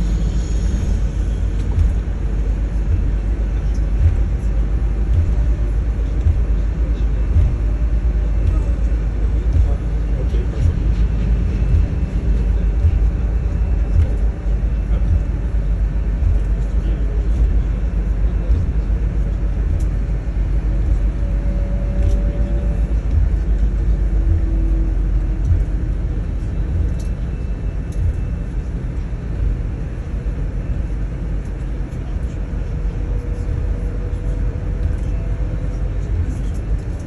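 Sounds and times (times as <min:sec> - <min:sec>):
bus engine and road noise: 0:00.0 - 0:37.0.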